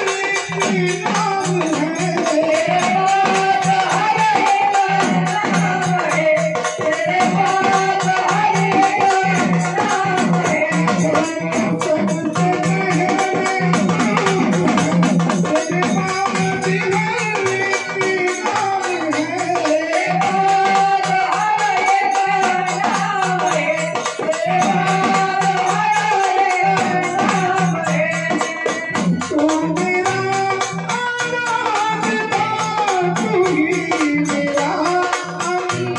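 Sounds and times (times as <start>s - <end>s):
fast frame drum beat: 0.0s - 35.9s
man singing: 0.0s - 35.9s.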